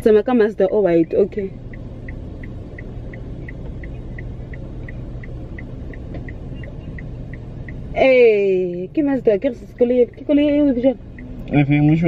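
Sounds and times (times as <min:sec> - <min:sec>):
car engine idling: 0:00.0 - 0:12.0
car warning chime beeping: 0:00.0 - 0:12.0.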